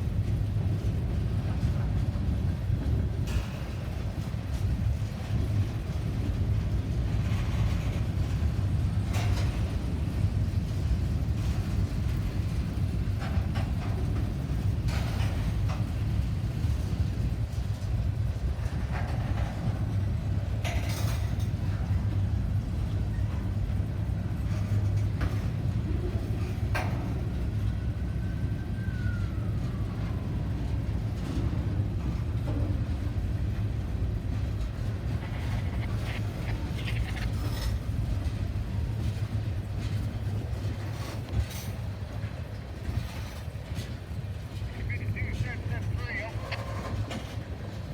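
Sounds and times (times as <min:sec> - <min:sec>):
train rumbling past: 0:00.0 - 0:47.9.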